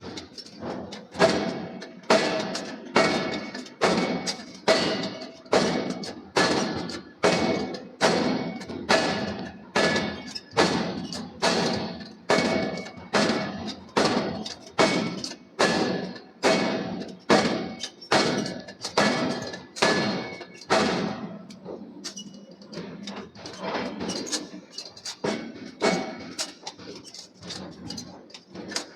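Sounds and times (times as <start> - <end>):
hammer striking steel: 0.0 - 22.2, 22.8 - 26.9.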